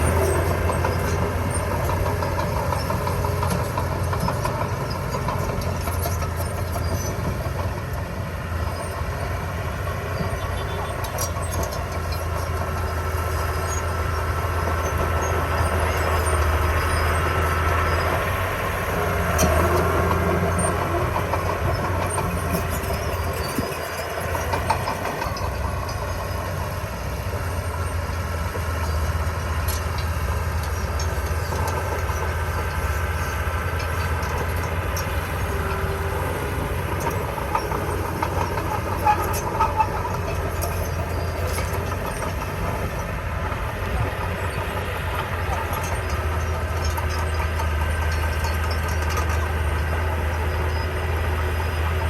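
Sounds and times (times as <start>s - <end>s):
bulldozer diesel engine running: 0.0s - 52.0s
steel tracks clanking: 0.0s - 52.0s.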